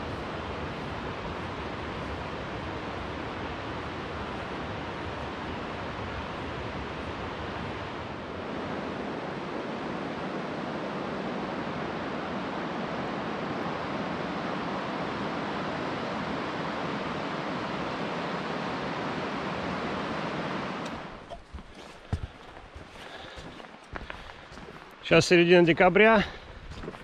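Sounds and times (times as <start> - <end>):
river water rushing: 0.0 - 25.4.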